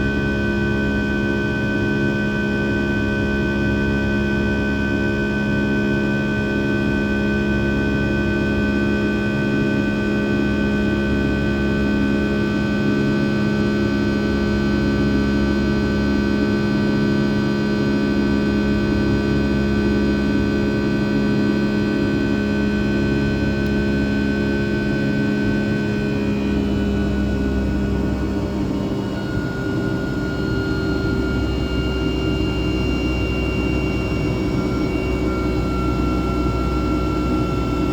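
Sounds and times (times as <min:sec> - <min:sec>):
jet engines droning in cabin: 0:00.0 - 0:37.9.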